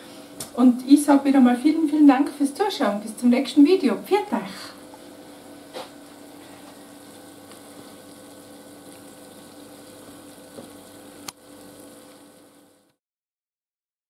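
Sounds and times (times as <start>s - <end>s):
kitchen background hum: 0.0s - 13.0s.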